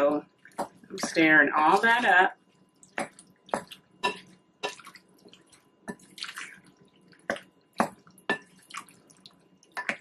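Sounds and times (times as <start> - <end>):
wet squelching stirring: 0.0 - 10.0.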